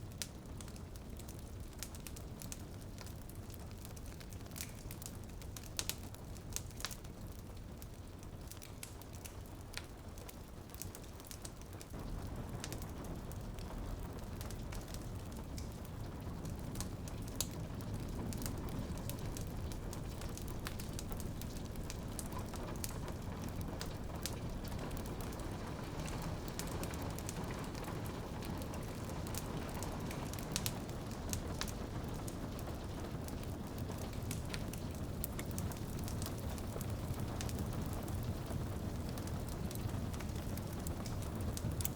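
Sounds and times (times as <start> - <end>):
rain on a window pane: 0.0 - 41.9
wood fire crackling: 0.0 - 41.9.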